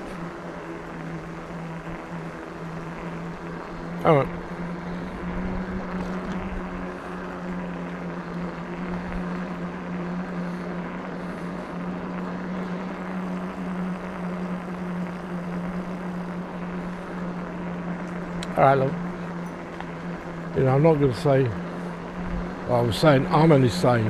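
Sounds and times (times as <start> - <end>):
electric motor humming: 0.0 - 24.0.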